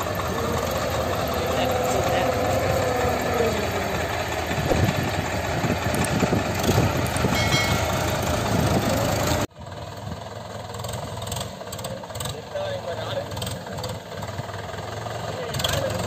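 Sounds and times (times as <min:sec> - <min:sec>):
diesel tractor engines running: 0:00.0 - 0:16.0
tractor engine driving: 0:00.0 - 0:16.0.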